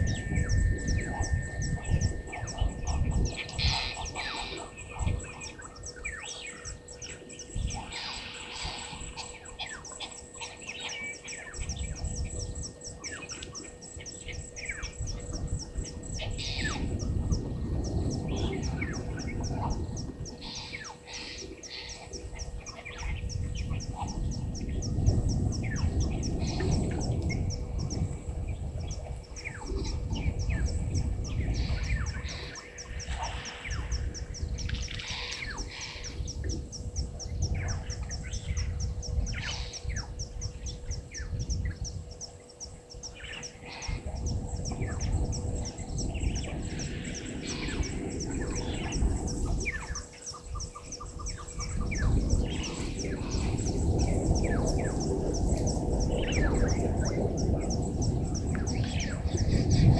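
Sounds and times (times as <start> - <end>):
birds chirping and calling: 0.0 - 59.9
low rumbling noise: 0.0 - 59.9.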